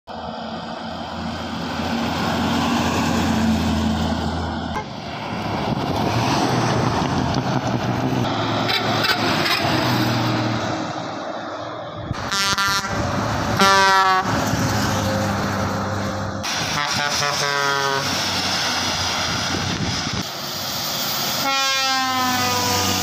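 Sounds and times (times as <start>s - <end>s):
buses driving past: 0.1s - 23.0s.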